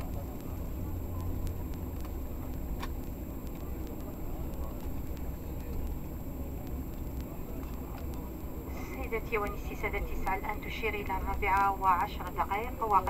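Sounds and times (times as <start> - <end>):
airliner cabin rumble: 0.0 - 13.0
faint clicks: 0.0 - 13.0.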